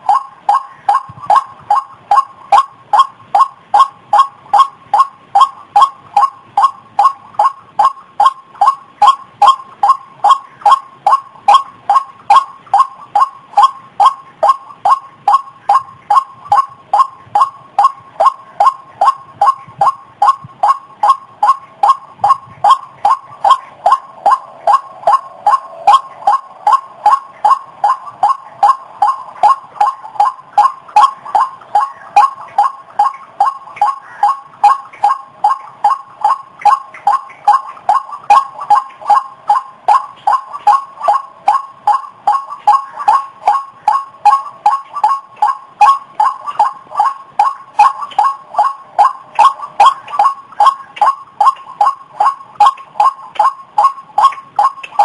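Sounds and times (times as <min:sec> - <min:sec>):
waterhen calling: 0:00.0 - 0:55.0.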